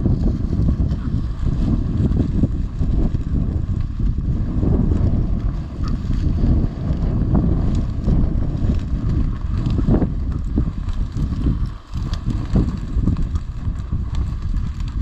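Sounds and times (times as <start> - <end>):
footsteps through dry grass: 0.0 - 15.0
wind buffeting microphone: 0.0 - 15.0.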